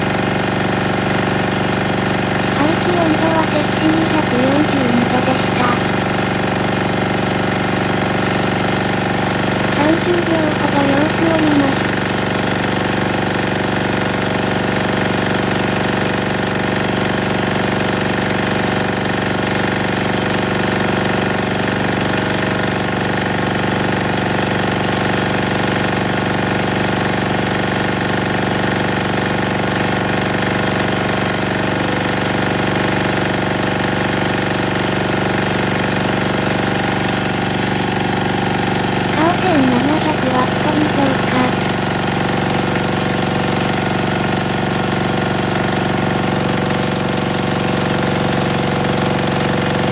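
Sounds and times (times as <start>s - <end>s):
diesel generator engine running: 0.0s - 49.9s.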